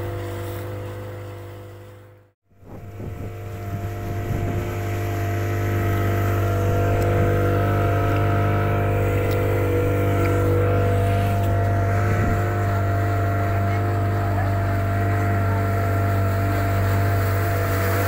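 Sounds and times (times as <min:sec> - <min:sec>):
motorboat engine droning: 0:00.0 - 0:18.0.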